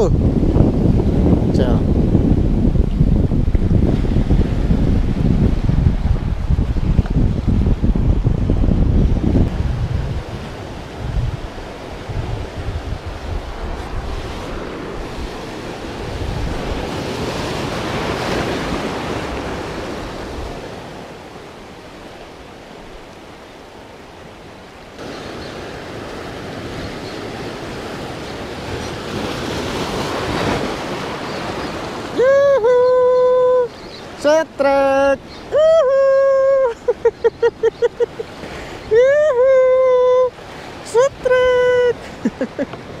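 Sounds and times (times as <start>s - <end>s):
wind on microphone: 0.0s - 23.1s, 25.0s - 43.0s
sea waves washing: 0.0s - 43.0s.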